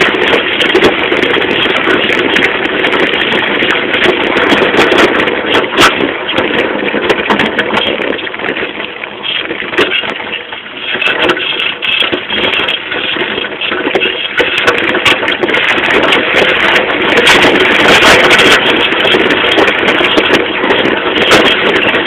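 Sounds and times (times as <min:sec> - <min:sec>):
bicycle rattling over rough ground: 0:00.0 - 0:22.0.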